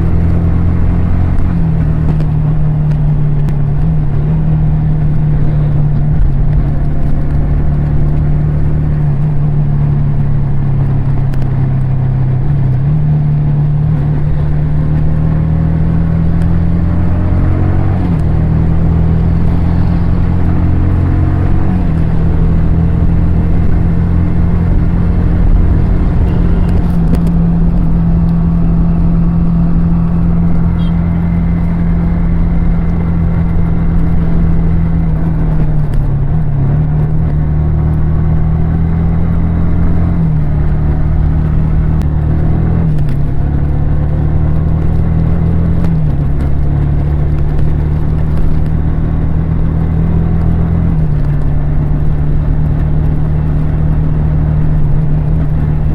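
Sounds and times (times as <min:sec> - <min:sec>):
motorcycle engine and exhaust running: 0:00.0 - 0:55.9.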